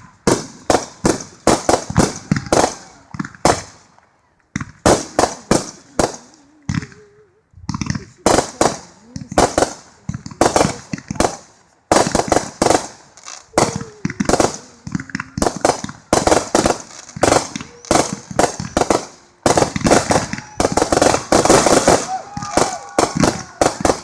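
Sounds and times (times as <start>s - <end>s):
fireworks bangs and pops: 0.0s - 24.0s.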